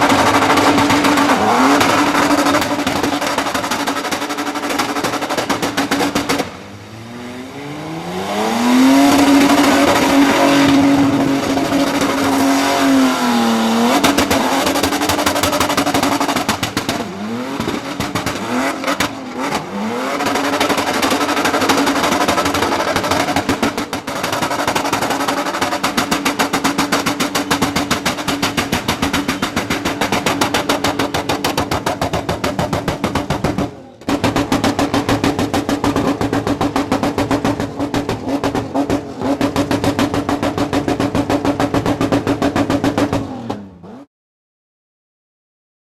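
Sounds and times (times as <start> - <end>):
car engine revving: 0.0 - 44.1.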